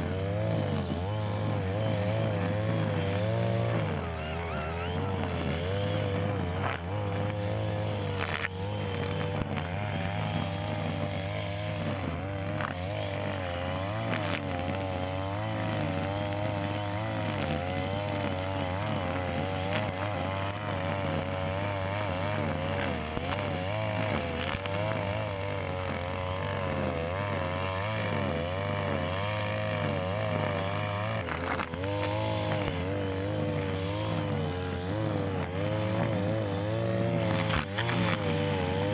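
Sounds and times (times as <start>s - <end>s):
brush cutter engine running: 0.0s - 38.9s.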